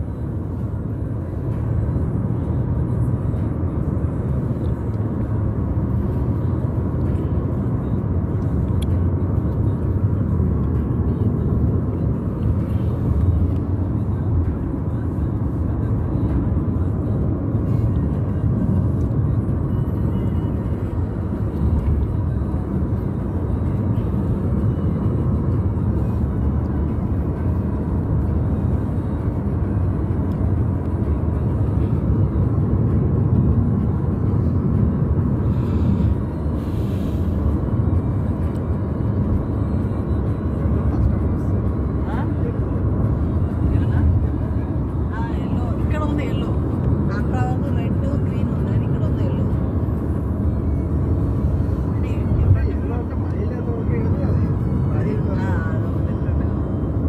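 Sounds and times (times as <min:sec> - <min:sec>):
road and tyre noise in car: 0:00.0 - 0:57.0.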